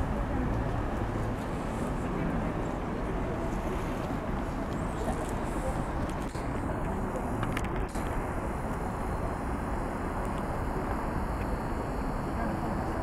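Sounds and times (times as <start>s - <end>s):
faint voices of people: 0.0s - 13.0s.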